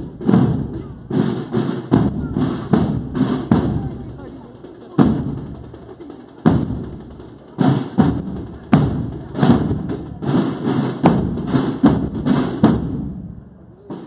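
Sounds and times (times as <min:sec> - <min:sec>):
snare drum rattle: 0:00.0 - 0:13.0
bass drum strokes: 0:00.0 - 0:13.9.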